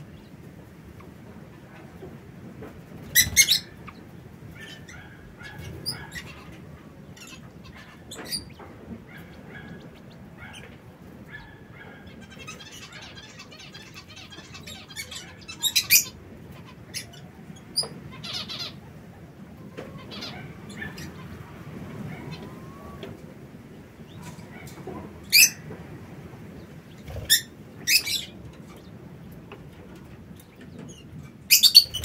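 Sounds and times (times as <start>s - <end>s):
birds chirping and squawking: 0.0s - 23.2s, 24.0s - 32.0s.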